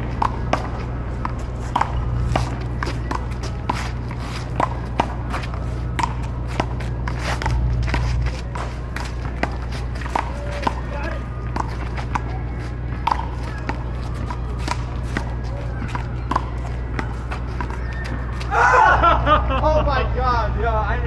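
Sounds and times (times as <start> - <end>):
ball bouncing off court: 0.0 - 18.5
paddles hitting ball: 0.0 - 18.5.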